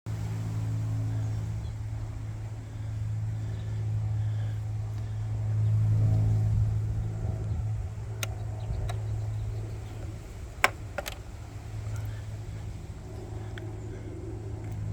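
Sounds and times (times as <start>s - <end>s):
low mechanical hum: 0.1s - 14.9s.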